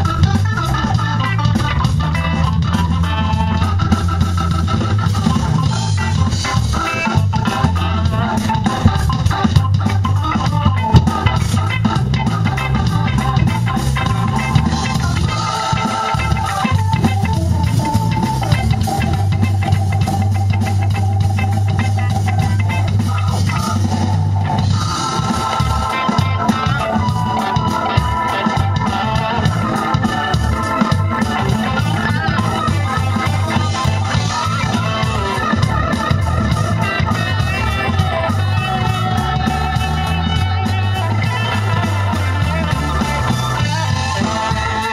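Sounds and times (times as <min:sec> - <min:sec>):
funk band playing: 0:00.0 - 0:44.9
lead guitar: 0:00.0 - 0:44.9.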